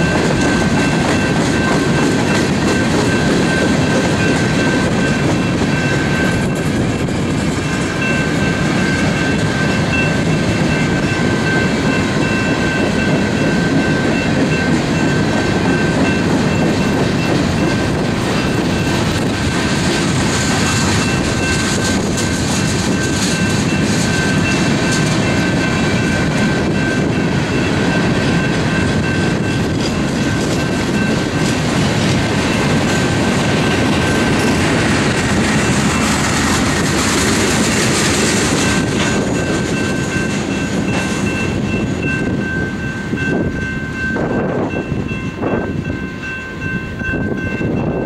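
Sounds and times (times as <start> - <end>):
crossing bell ringing: 0.0 - 48.0
train wheels rumbling on rails: 0.0 - 48.0.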